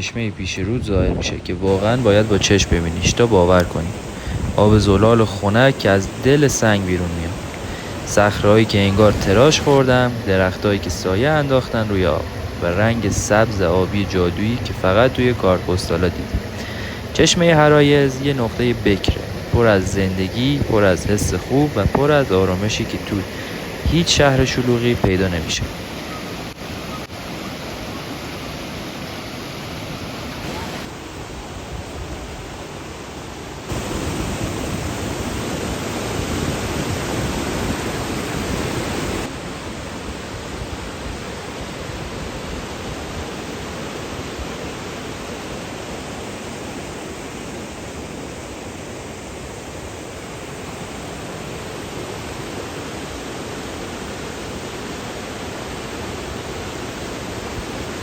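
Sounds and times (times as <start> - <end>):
waterfall roar: 0.5 - 58.0.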